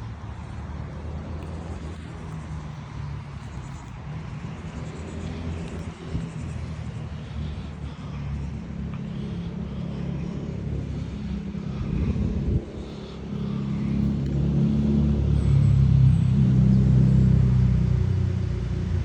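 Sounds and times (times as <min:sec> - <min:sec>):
low vehicle engine rumble: 0:00.0 - 0:19.0.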